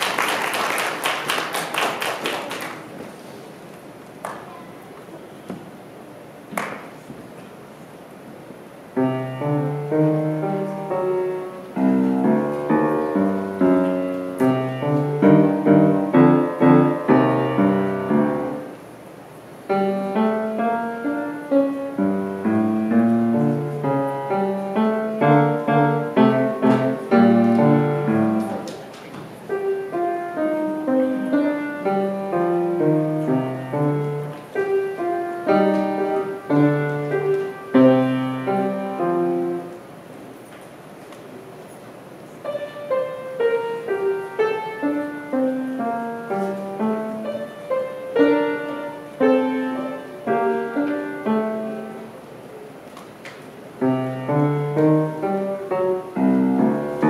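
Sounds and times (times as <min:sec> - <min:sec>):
solo grand piano: 0:08.3 - 0:57.0.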